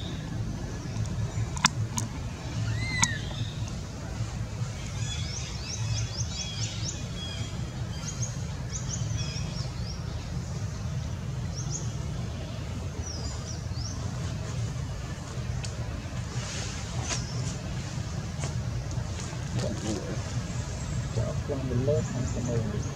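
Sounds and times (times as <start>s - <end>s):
small birds chirping: 0.0s - 22.9s
steady low rumble: 0.0s - 22.9s.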